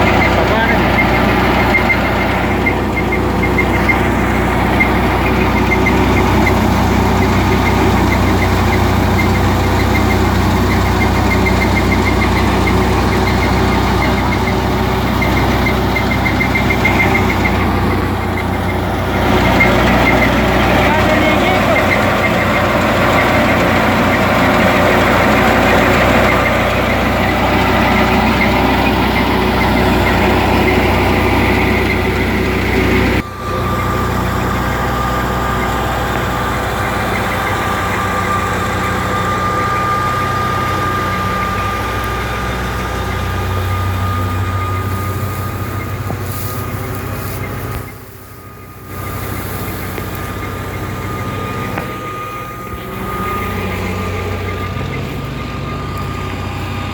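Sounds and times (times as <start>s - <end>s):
steady machine whine: 0.0s - 56.9s
tractor diesel engine under load: 0.0s - 56.9s.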